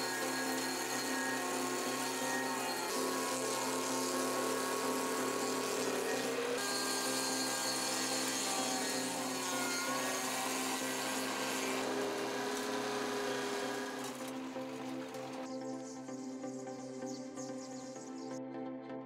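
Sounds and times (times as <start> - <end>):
stump grinder whirring: 0.0 - 15.5
wood grinding: 0.0 - 15.5.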